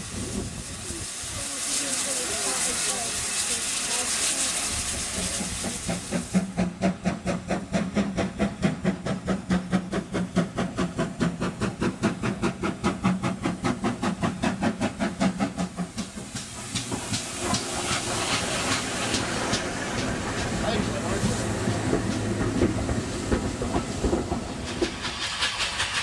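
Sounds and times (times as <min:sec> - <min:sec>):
steam hiss: 0:00.0 - 0:26.0
steam locomotive chuffing: 0:00.0 - 0:26.0
train clanks: 0:00.3 - 0:26.0.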